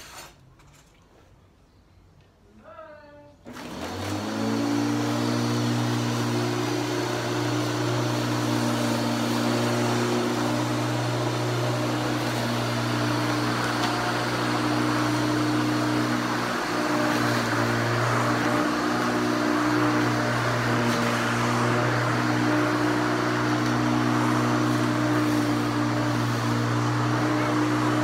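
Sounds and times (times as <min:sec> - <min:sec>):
electric lawnmower running: 0:03.4 - 0:28.0.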